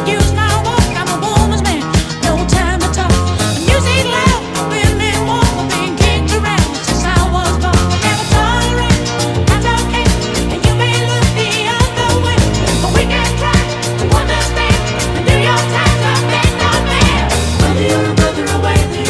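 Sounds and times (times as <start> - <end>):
upbeat funk music with singing: 0.0 - 19.0.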